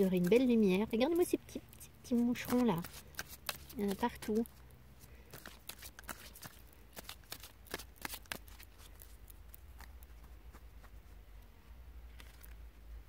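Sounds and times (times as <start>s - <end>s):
cards clicking and rustling: 0.0s - 10.2s, 12.1s - 12.7s.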